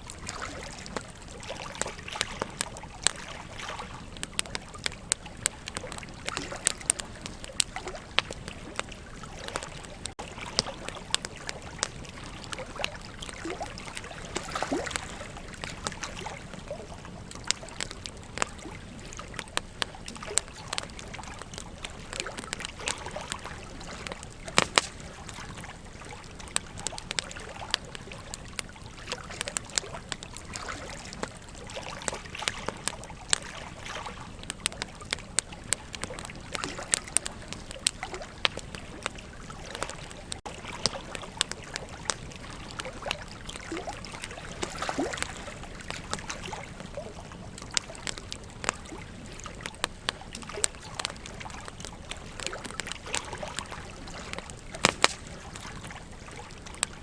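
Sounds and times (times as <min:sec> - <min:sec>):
campfire crackling and popping: 0:00.0 - 0:57.0
flowing river water: 0:00.0 - 0:57.0.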